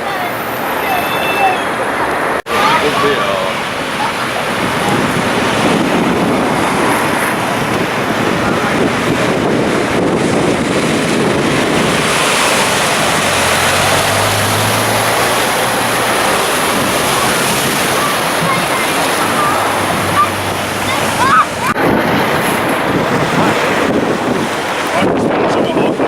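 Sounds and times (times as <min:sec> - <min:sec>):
water washing and splashing: 0:00.0 - 0:26.0
wind buffeting microphone: 0:00.0 - 0:26.0.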